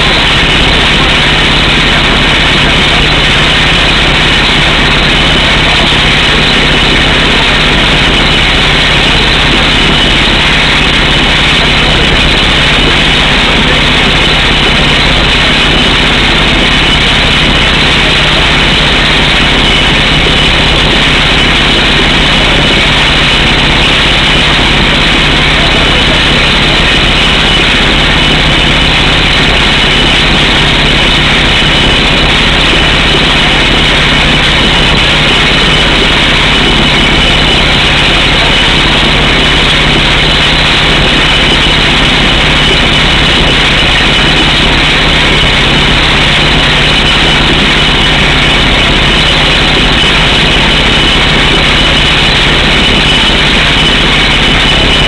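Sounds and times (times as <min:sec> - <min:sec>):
air hammer drilling rock: 0:00.0 - 0:55.0
rig engine running: 0:00.0 - 0:55.0.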